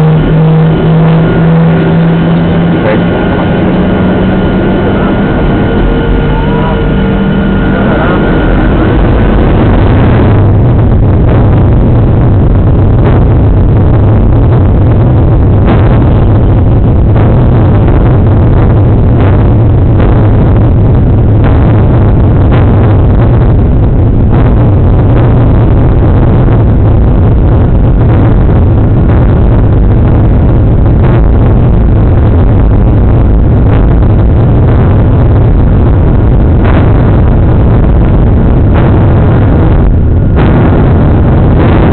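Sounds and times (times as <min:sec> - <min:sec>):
jet engines roaring: 0:00.0 - 0:41.9.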